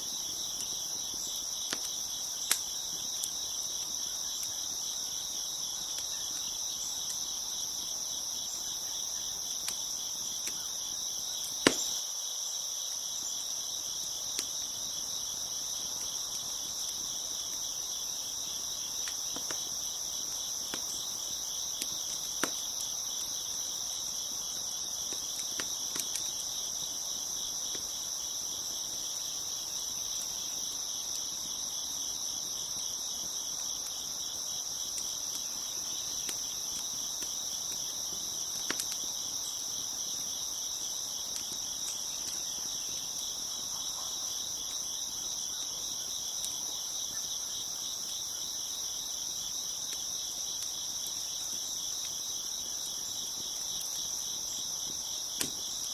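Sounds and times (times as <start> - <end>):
wood fire pops and crackles: 0.0 - 12.1, 13.4 - 43.7, 49.0 - 55.9
crickets chirping: 0.0 - 55.9.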